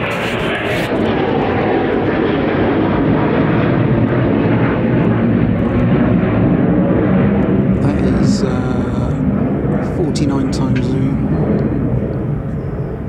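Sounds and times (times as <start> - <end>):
aircraft engine flying past: 0.0 - 13.0.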